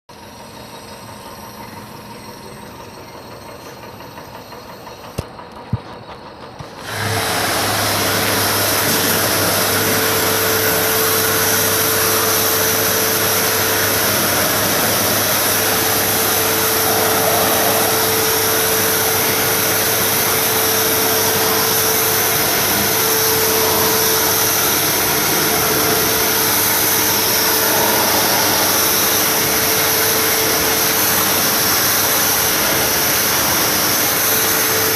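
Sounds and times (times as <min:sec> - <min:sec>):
pressure washer pump humming: 0:00.2 - 0:34.9
water spray hiss: 0:06.8 - 0:34.9.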